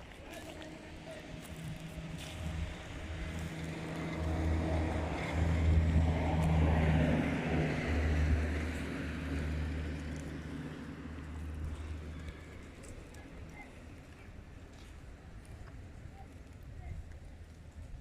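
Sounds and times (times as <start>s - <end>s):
vehicle engine humming: 0.0s - 16.6s.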